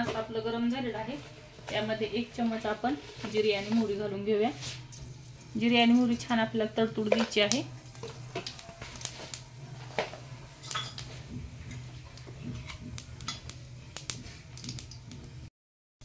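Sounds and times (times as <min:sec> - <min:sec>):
seeds crackling in hot oil: 0:01.0 - 0:15.5.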